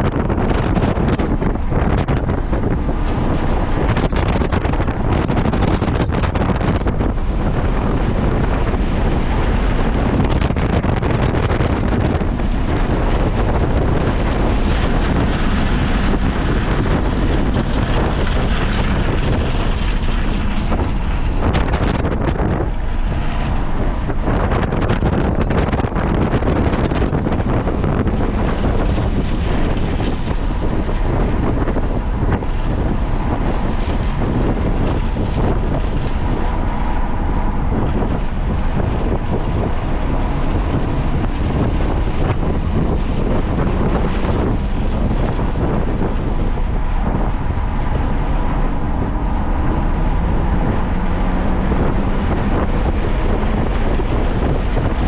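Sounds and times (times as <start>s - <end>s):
car engine at speed: 0.0s - 55.0s
wind buffeting microphone: 0.0s - 55.0s.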